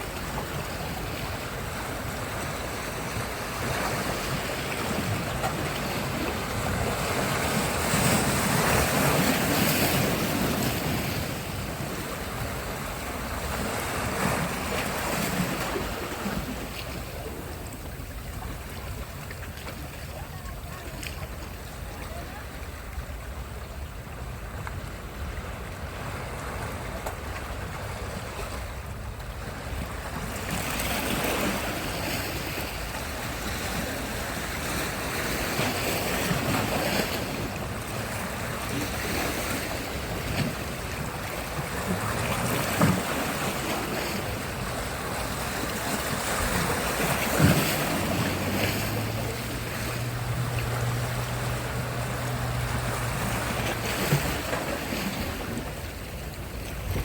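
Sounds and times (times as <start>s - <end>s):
waves breaking: 0.0s - 57.0s.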